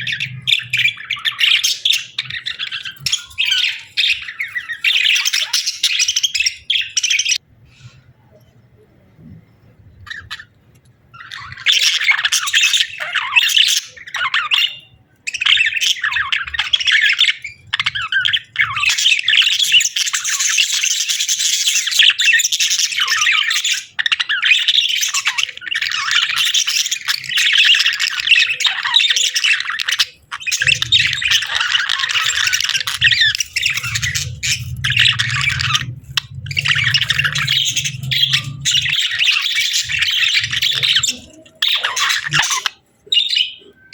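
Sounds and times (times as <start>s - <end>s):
budgies chattering and squawking: 0.0s - 8.0s, 9.8s - 43.9s.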